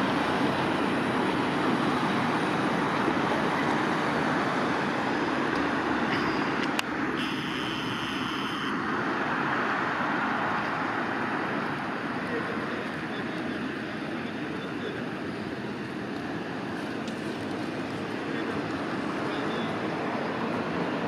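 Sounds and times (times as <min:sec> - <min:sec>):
tram and traffic passing: 0:00.0 - 0:21.0.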